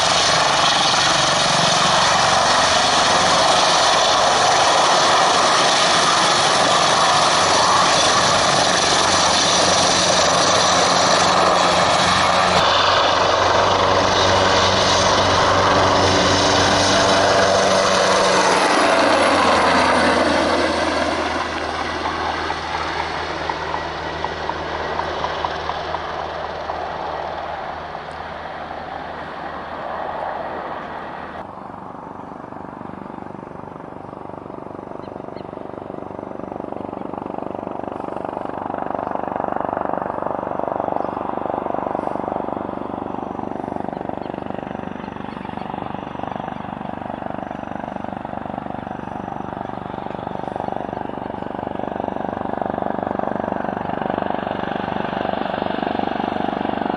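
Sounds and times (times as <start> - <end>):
helicopter engines and rotor: 0.0 - 56.9.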